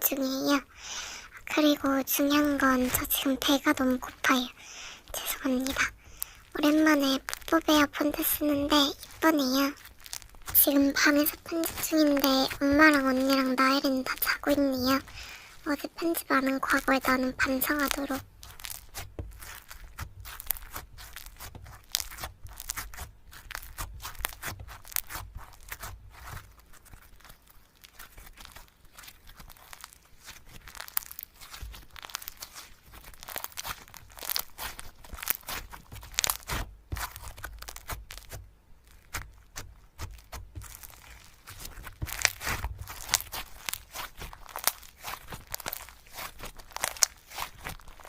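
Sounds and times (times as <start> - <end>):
slime squeezed by hand: 0.5 - 48.0.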